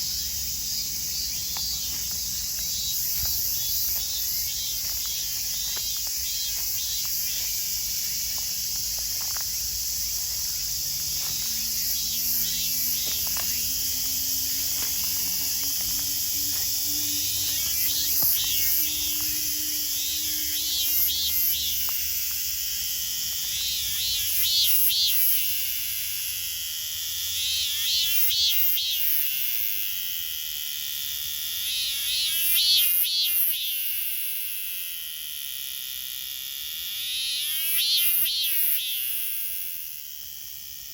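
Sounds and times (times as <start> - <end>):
cicada chorus buzzing: 0.0 - 40.9
cicada pulsing song: 0.0 - 40.9.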